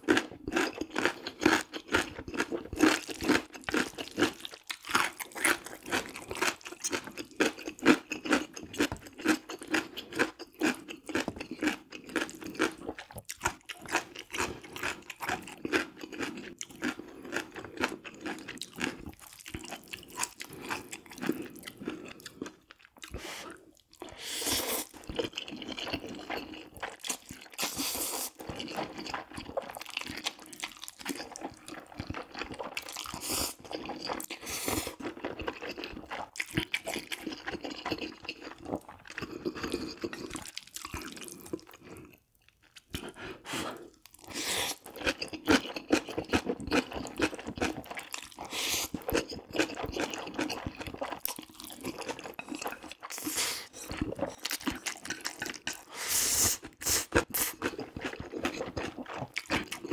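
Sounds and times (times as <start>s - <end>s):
wet chewing of noodles: 0.0s - 59.9s.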